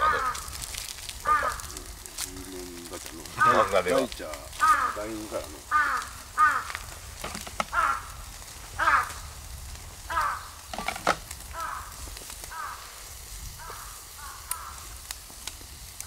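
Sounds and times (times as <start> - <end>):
crow cawing: 0.0 - 2.1, 3.3 - 9.4, 10.0 - 15.0.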